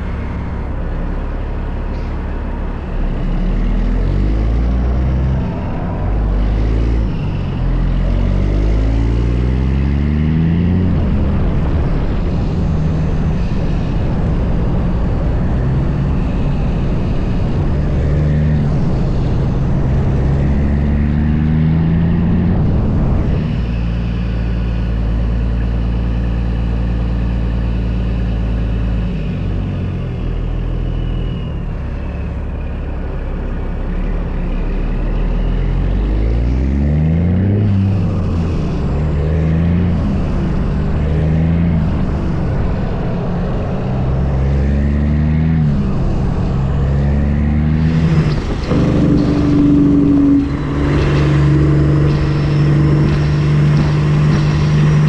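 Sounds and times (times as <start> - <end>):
diesel truck engine shifting gears: 0.0 - 55.0.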